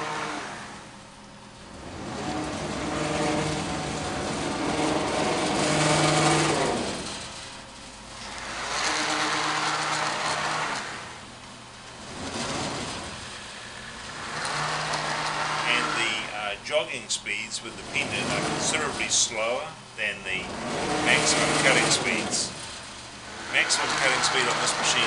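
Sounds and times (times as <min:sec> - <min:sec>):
gantry drive whining: 0:00.0 - 0:25.0.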